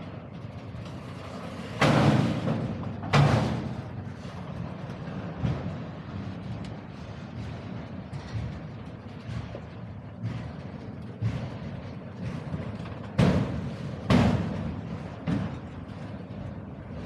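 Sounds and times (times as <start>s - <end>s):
train cars rumbling: 0.0s - 17.0s.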